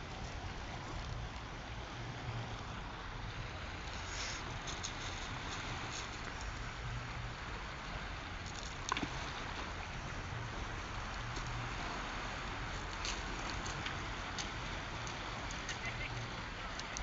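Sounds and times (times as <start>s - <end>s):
sea water washing: 0.0s - 17.0s.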